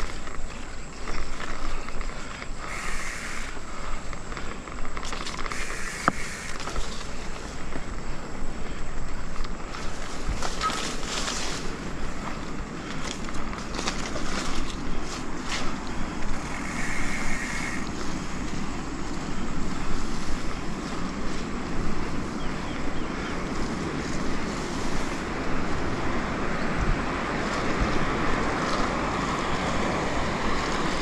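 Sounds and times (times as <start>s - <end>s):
bike tyres rolling on dirt: 0.0s - 31.0s.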